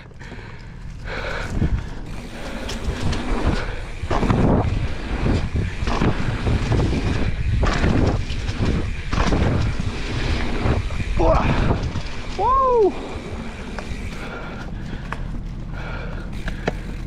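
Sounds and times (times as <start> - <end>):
bike tyres on dirt: 0.0 - 17.0
wind rushing over microphone: 1.1 - 17.0.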